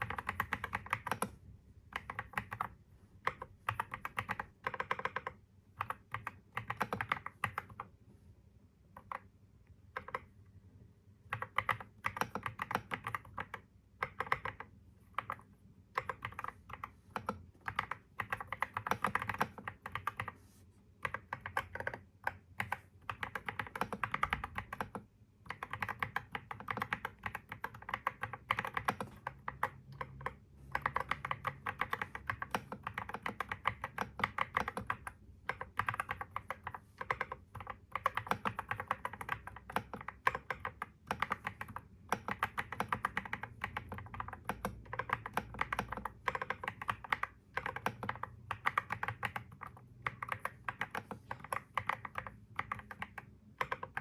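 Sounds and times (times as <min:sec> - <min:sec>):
computer keyboard typing: 0:00.0 - 0:08.0, 0:08.9 - 0:10.4, 0:11.3 - 0:20.4, 0:21.0 - 0:54.0.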